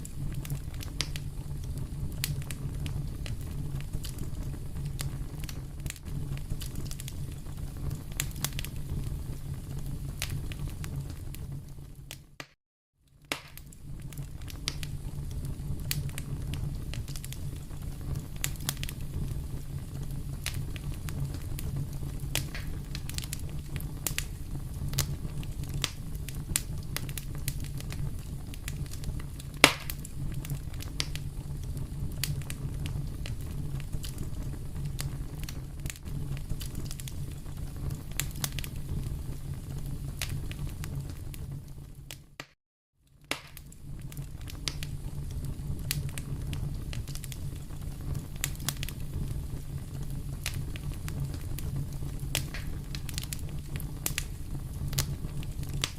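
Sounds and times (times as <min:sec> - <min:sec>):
fire crackling: 0:00.0 - 0:12.5, 0:13.1 - 0:42.5, 0:43.2 - 0:55.9
pops and snaps of fire: 0:00.0 - 0:55.9.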